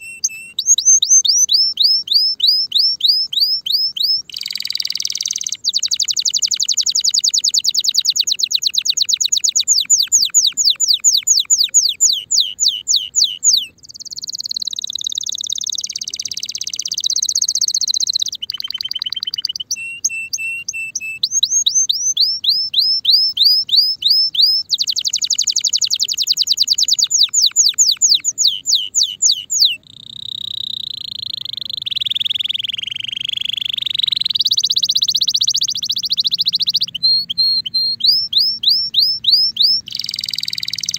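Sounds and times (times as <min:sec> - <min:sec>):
canary singing rolls and trills: 0:00.0 - 0:40.9.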